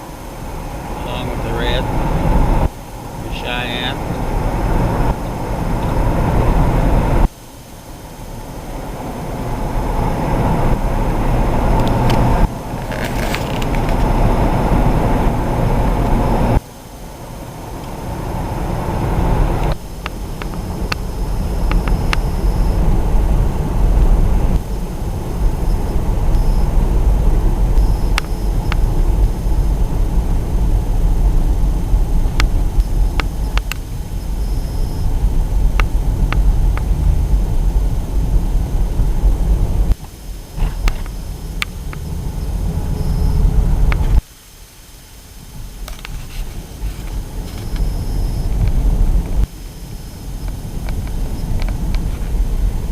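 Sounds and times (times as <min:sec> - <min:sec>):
car road noise: 0:00.0 - 0:44.3, 0:45.4 - 0:52.9.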